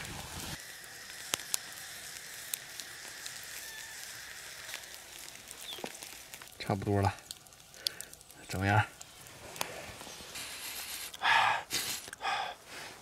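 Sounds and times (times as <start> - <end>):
sausage sizzling: 0.0 - 12.9
campfire crackling and popping: 0.0 - 13.0.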